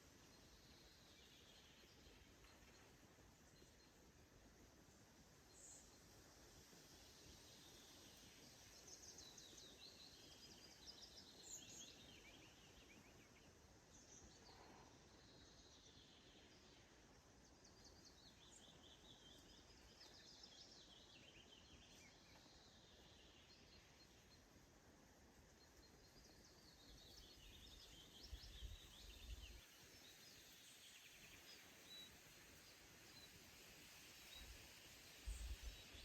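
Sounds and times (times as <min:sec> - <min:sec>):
low outdoor hiss: 0:00.0 - 0:36.0.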